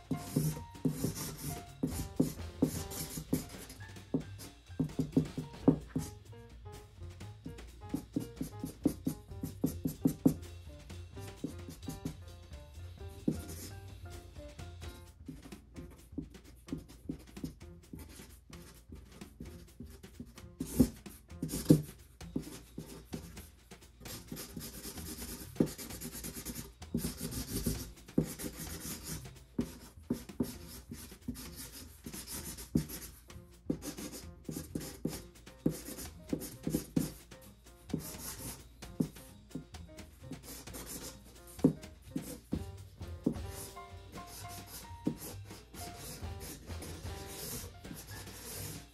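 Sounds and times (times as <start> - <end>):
marker scratching on cardboard: 0.0 - 6.2, 7.2 - 12.4, 13.0 - 39.3, 40.0 - 48.9.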